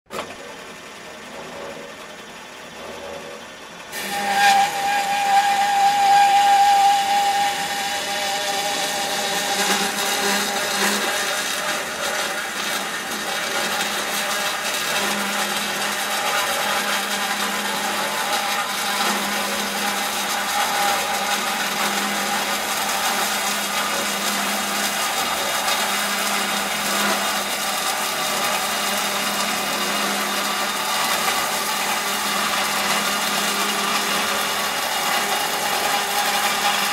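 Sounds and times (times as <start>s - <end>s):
band saw cutting metal: 0.1s - 36.9s.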